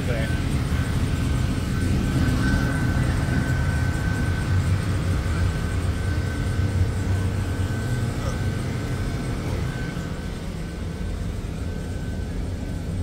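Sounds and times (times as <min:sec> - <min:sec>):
thin steady whine: 0:00.0 - 0:13.0.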